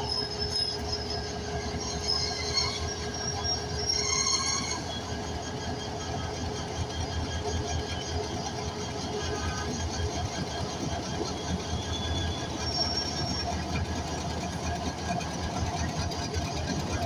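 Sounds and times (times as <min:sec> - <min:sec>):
metallic wheel squeal: 0:00.0 - 0:17.0
train rumbling on rails: 0:00.0 - 0:17.0.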